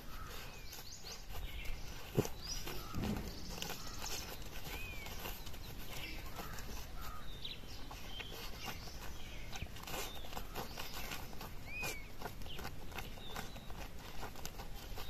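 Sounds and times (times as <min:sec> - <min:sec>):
bird chirps: 0:00.0 - 0:13.8
puppy digging in grass and dirt: 0:00.0 - 0:15.0.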